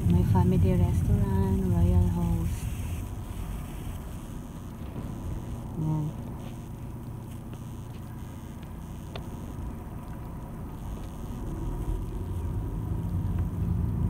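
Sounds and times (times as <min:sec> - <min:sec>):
car driving rumble: 0:00.0 - 0:14.0.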